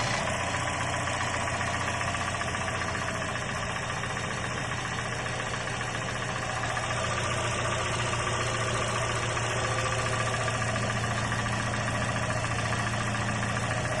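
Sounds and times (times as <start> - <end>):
car engine idling: 0.0 - 14.0
extraneous engine noise: 0.0 - 14.0.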